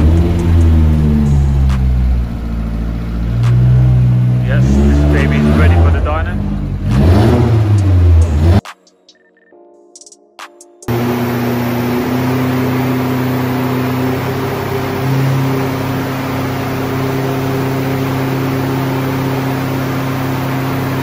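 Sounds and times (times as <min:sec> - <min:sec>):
car engine running steadily: 0:00.0 - 0:08.6, 0:10.9 - 0:21.0
cooling fans rushing: 0:00.0 - 0:08.6, 0:10.9 - 0:21.0.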